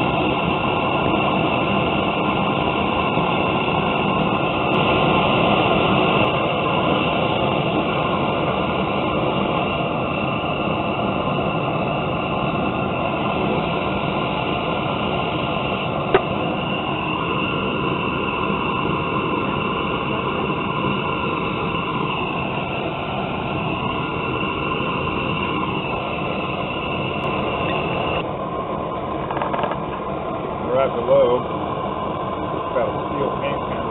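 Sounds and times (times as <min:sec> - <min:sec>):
gas torch roaring hiss: 0:00.0 - 0:33.9.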